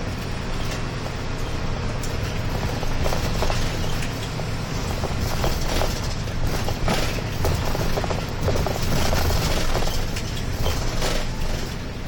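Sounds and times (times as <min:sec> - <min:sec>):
bus engine running: 0:00.0 - 0:12.0
road and tyre noise: 0:00.0 - 0:12.0.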